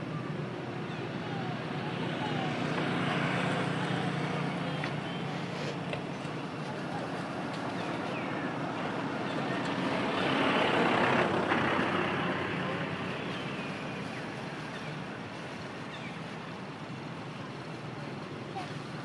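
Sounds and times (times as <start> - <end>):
motor vehicle passing by: 0.9 - 16.8.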